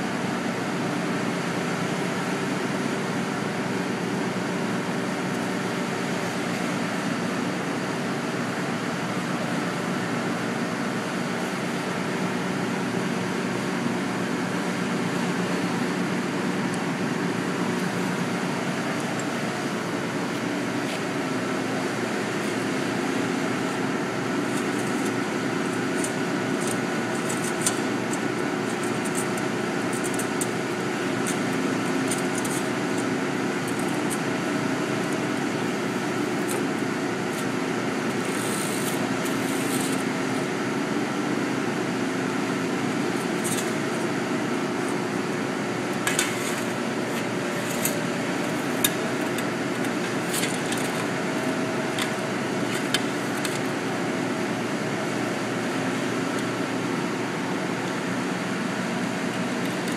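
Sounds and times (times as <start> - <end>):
fan-like machine hum: 0.0 - 59.9.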